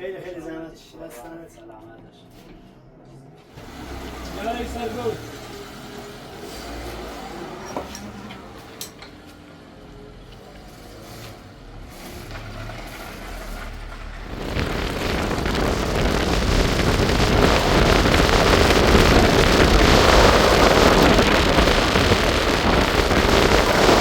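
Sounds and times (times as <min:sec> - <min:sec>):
vehicle engine rumble: 0:03.0 - 0:24.0
wind and road noise: 0:03.5 - 0:24.0.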